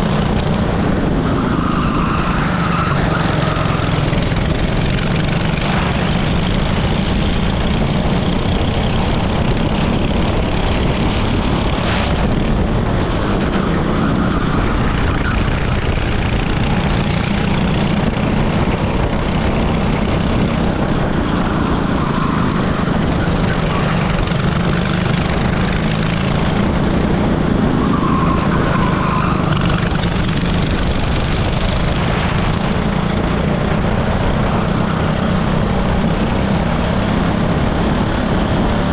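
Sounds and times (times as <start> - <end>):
kart engine drone: 0.0 - 38.9.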